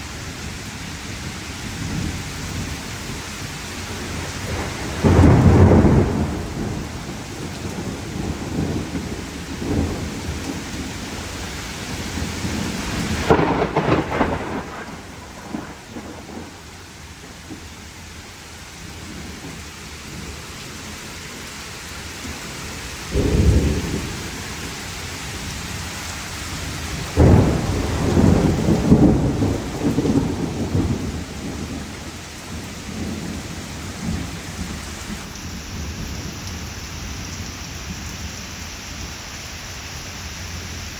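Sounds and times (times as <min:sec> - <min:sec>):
heavy rain: 0:00.0 - 0:40.9
thunder rumbling: 0:01.6 - 0:21.4, 0:22.2 - 0:38.0.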